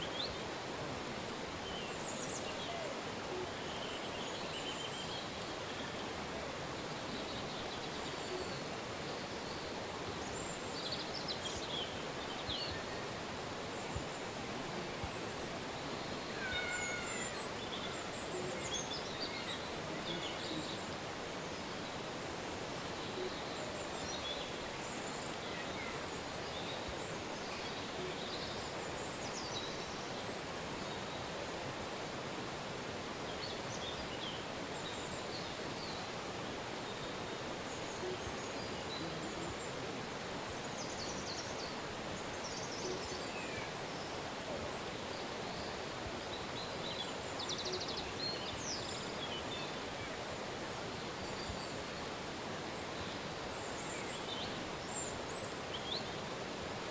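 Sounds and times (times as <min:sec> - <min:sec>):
river rushing: 0:00.0 - 0:56.9.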